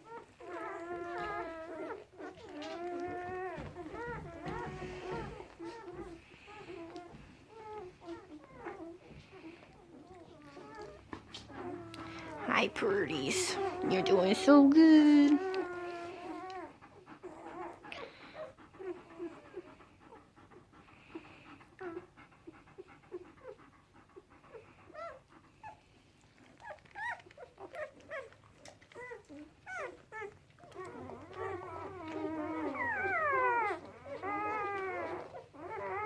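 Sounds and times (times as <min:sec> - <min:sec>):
puppies squeaking and whimpering: 0:00.0 - 0:36.0.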